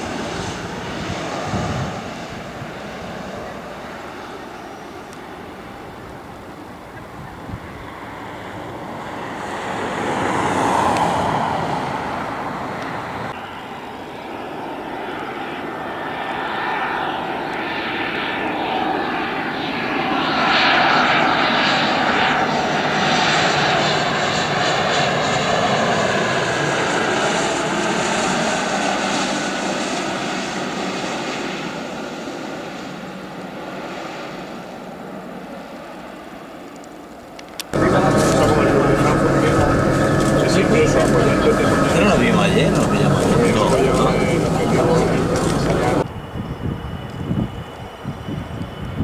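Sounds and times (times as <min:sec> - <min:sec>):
jet passing with high whine: 0:00.0 - 0:49.0.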